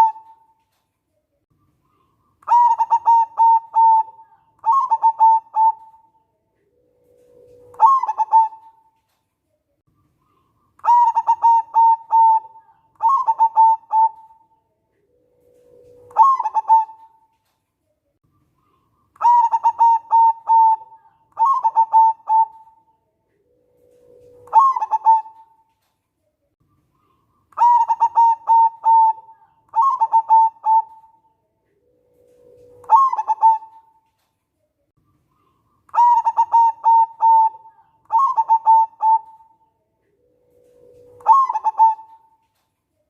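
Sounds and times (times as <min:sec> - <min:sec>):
dove cooing: 0:00.0 - 0:00.6, 0:01.9 - 0:09.0, 0:10.3 - 0:17.3, 0:18.6 - 0:25.7, 0:27.0 - 0:34.2, 0:35.2 - 0:42.6.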